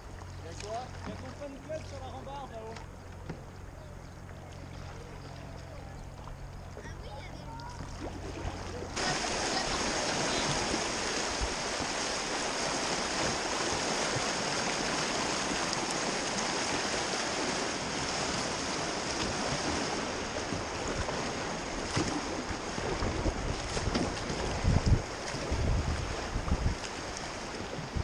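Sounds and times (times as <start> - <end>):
river water rushing and splashing: 0.0 - 28.0.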